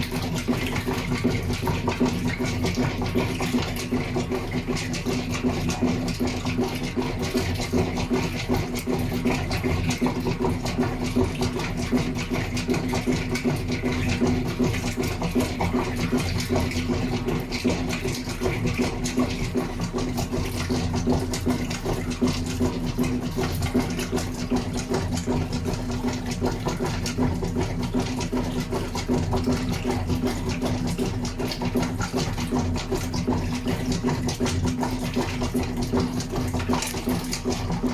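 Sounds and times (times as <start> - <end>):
washing machine motor humming: 0.0 - 37.9.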